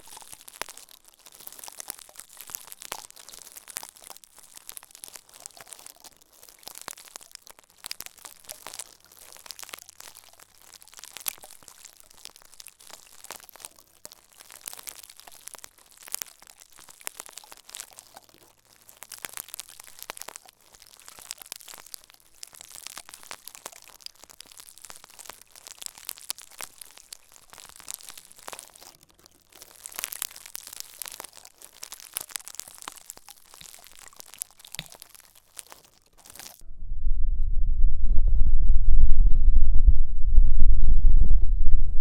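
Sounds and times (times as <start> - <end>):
crinkly material being crushed: 0.0 - 36.6.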